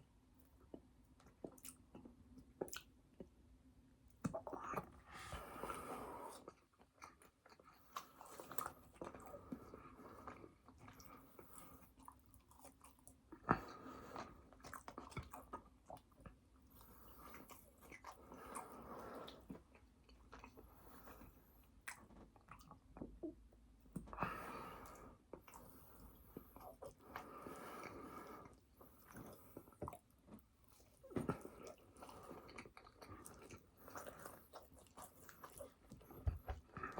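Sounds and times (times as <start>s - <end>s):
chewing and biting food: 4.2s - 24.2s, 24.9s - 36.9s.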